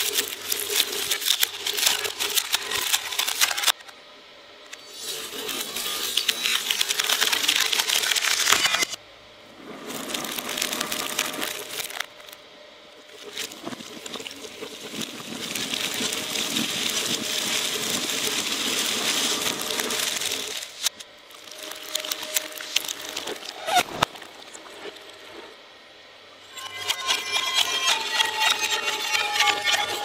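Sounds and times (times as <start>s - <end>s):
shredder crunching and crackling: 0.0s - 3.8s, 4.9s - 12.4s, 13.0s - 24.1s, 26.5s - 30.0s.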